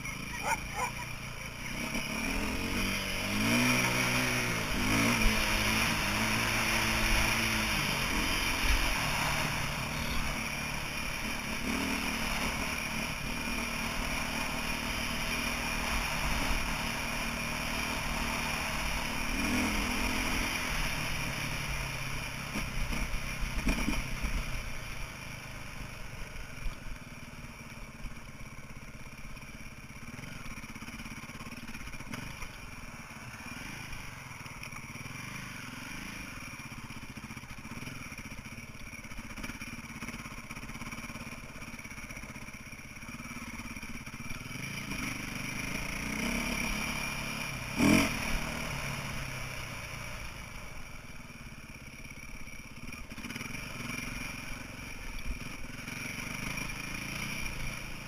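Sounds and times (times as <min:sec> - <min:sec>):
dirt bike engine revving: 0:00.0 - 0:25.0, 0:29.2 - 0:50.9, 0:51.5 - 0:58.0.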